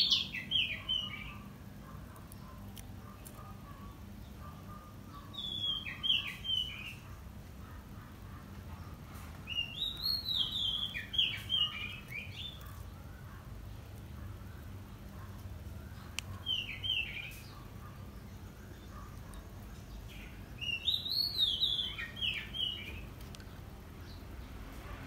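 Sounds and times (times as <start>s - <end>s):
small bird chirping: 0.0s - 24.4s.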